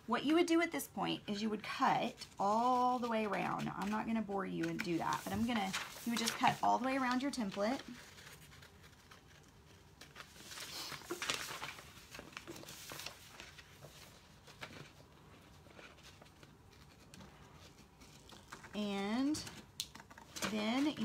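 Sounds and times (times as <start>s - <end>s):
paper rustling and scraping: 2.2s - 21.0s.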